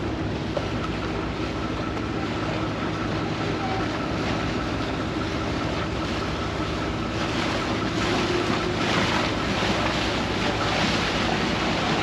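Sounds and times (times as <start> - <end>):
boat engine rumbling: 0.0 - 12.0
water rushing along hull: 0.0 - 12.0.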